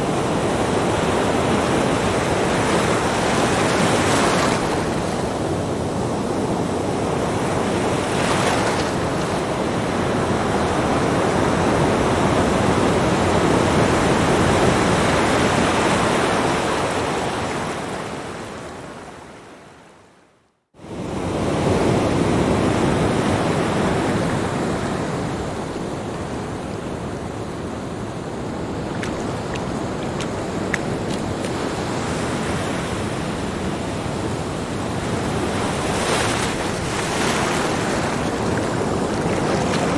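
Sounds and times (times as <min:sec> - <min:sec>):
waves breaking on sandy beach: 0:00.0 - 0:19.4, 0:20.8 - 0:39.9.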